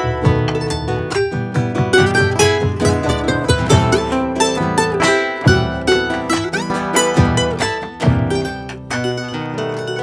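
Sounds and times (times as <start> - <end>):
acoustic guitar accompaniment: 0.0 - 10.0
plucked charango melody: 0.0 - 10.0.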